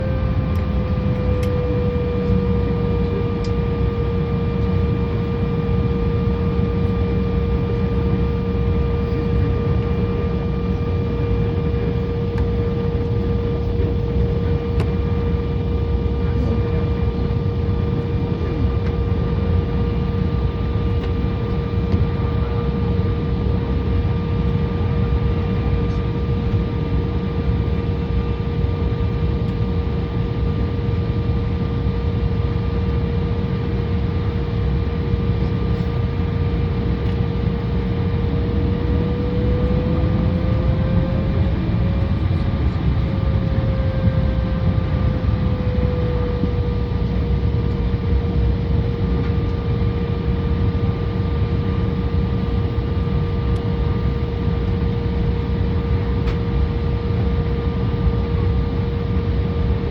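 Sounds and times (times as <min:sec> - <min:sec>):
jet cabin rumble: 0:00.0 - 0:59.9
jet engine whine: 0:00.0 - 0:59.9.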